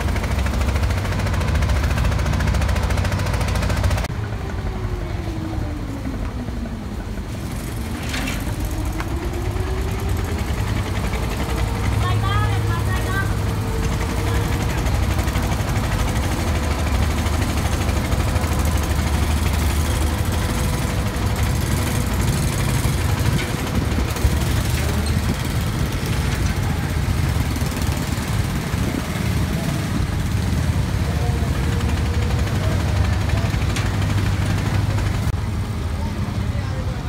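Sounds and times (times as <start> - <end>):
engines idling: 0.0 - 37.0.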